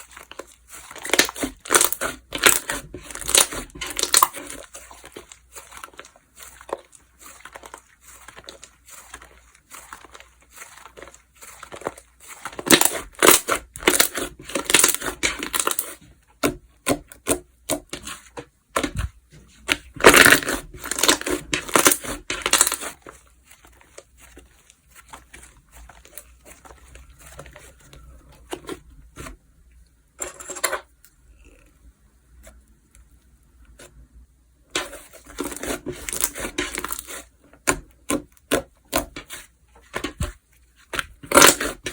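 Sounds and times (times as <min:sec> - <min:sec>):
hands squishing slime: 0:00.0 - 0:29.4, 0:34.7 - 0:41.9.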